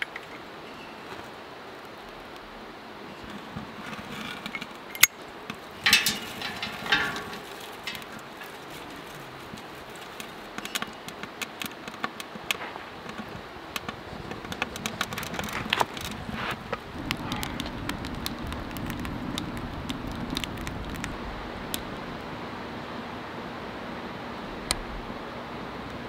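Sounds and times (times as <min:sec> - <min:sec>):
kindling crackling: 0:01.0 - 0:26.0
soft rush of flame: 0:01.4 - 0:25.3.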